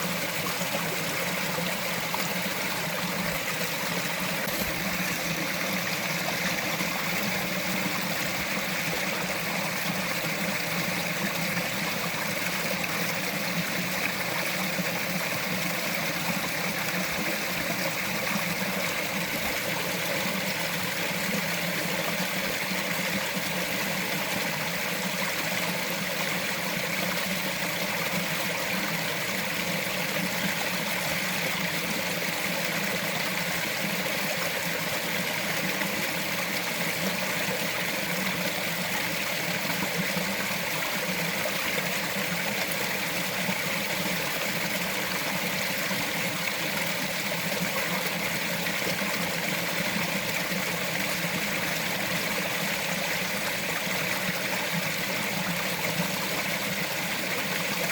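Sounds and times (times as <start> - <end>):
stream flowing over rocks: 0.0 - 57.9.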